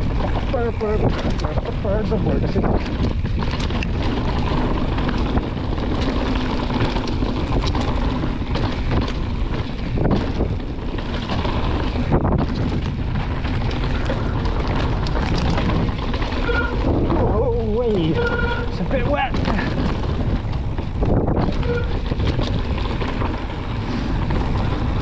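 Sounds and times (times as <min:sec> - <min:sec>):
bike clattering over bumps: 0:00.0 - 0:25.0
bike tyres on dirt: 0:00.0 - 0:25.0
wind on microphone: 0:00.0 - 0:25.0.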